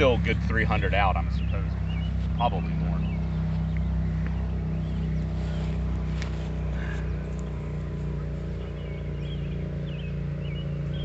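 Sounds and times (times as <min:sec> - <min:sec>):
birds chirping: 0:00.0 - 0:11.0
low mechanical hum: 0:00.0 - 0:11.0.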